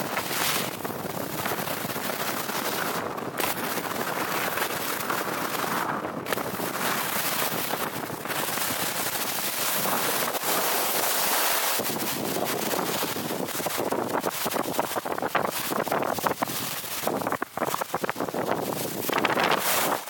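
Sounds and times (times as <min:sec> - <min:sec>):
skis scraping on icy snow: 0:00.0 - 0:20.0
wind rushing over microphone: 0:00.0 - 0:20.0.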